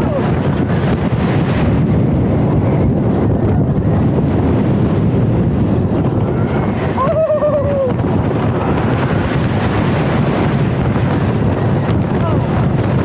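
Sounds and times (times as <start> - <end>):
roller coaster rumbling on track: 0.0 - 13.0
wind roaring over microphone: 0.0 - 13.0.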